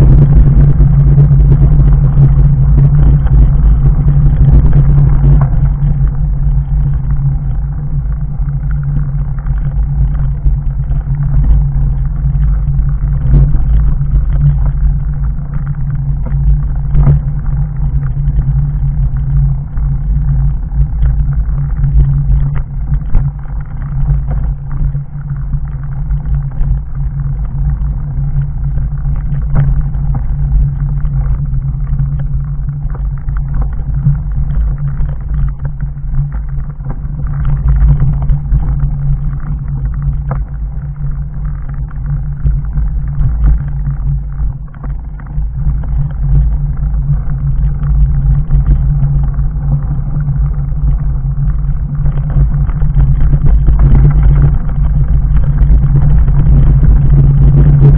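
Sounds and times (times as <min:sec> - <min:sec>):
bike rattling: 0:00.0 - 0:57.9
bike tyres rumbling on gravel: 0:00.0 - 0:57.9.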